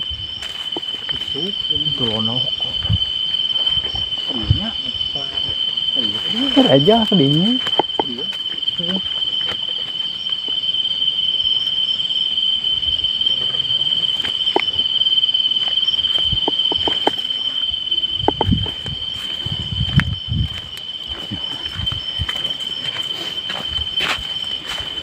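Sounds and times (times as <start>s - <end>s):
insect trilling: 0.0s - 25.0s.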